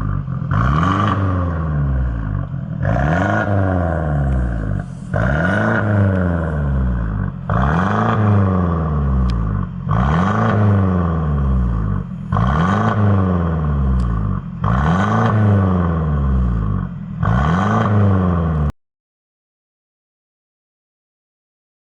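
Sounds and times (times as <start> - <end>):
car engine revving: 0.0 - 18.7.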